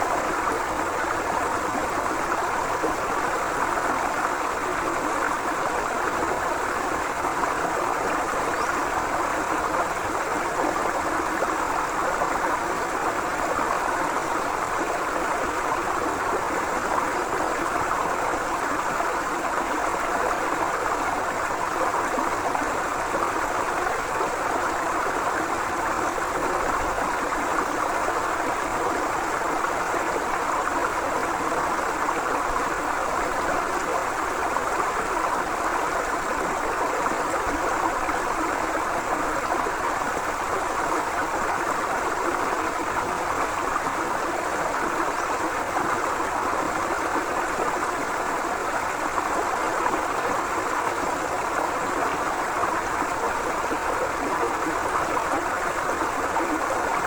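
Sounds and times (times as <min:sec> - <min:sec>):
river water rushing and gurgling: 0:00.0 - 0:57.0.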